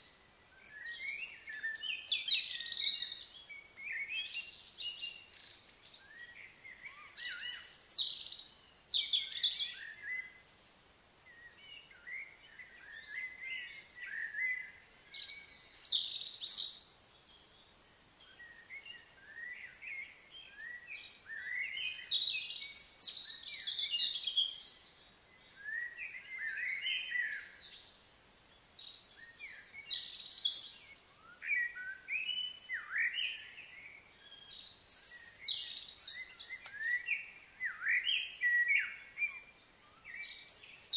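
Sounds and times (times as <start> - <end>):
birdsong chirps: 0.0 - 40.9.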